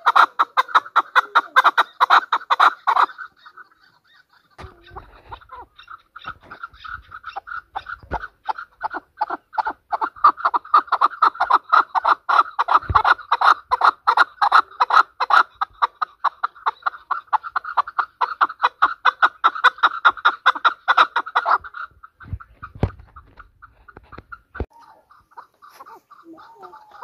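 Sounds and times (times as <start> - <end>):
partridge clucking calls: 0.0 - 27.0.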